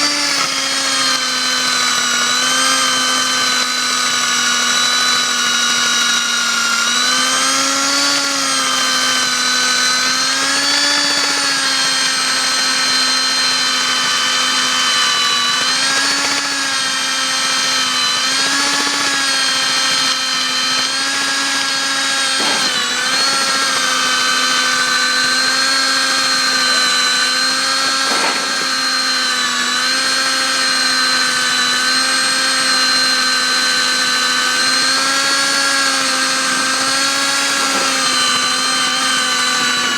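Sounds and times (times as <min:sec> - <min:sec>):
core drill motor whine: 0:00.0 - 0:39.9
vacuum cleaner: 0:00.0 - 0:39.9.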